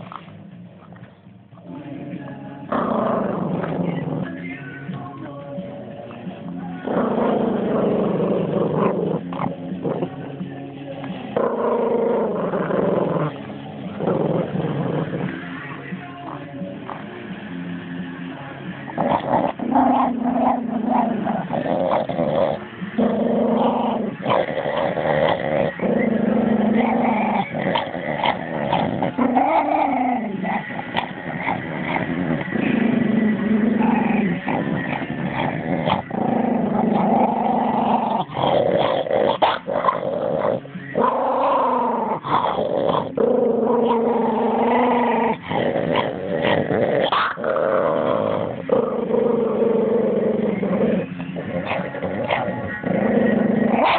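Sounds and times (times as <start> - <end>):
dog growling: 2.7 - 4.6, 6.6 - 17.6, 18.7 - 53.9.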